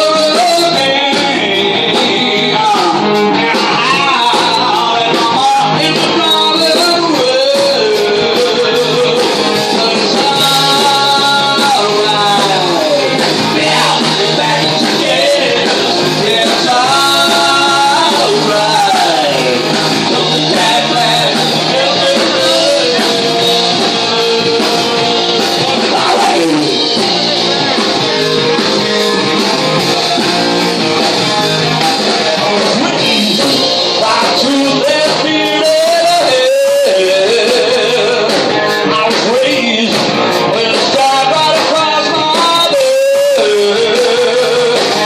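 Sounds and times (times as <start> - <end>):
lead vocal singing: 0.0 - 45.0
live rock band playing: 0.0 - 45.0.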